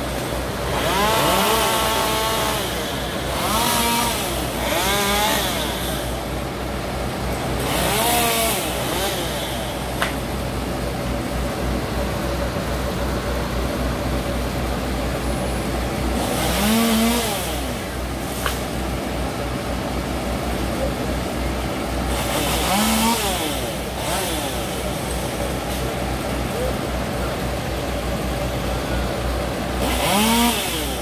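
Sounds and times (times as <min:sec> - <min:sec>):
engine humming and revving: 0:00.0 - 0:31.0.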